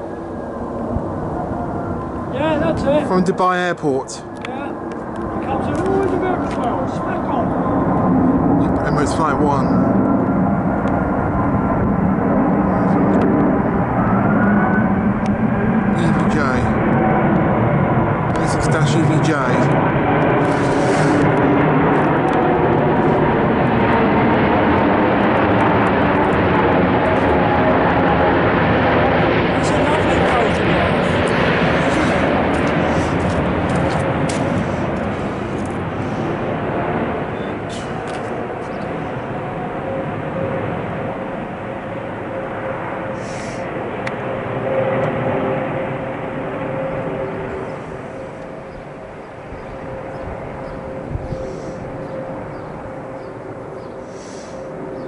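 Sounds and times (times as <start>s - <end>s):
airliner jet noise overhead: 0.0s - 55.0s.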